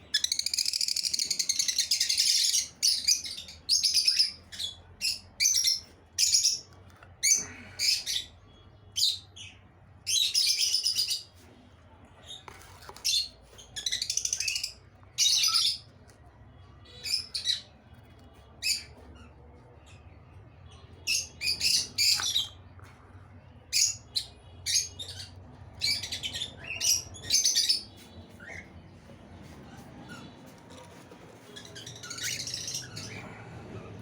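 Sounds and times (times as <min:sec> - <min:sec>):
lovebirds chirping and squawking: 0:00.0 - 0:11.5, 0:12.2 - 0:34.0.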